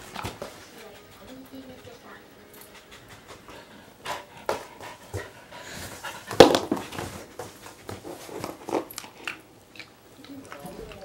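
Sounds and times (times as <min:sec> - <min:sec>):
puppy sniffing and snuffling: 0:00.0 - 0:09.4.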